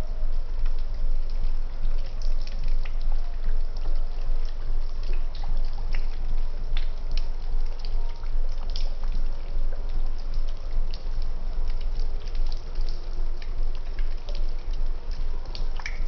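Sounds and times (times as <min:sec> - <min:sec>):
water drips: 0:00.0 - 0:16.0
water running and splashing: 0:00.0 - 0:16.0.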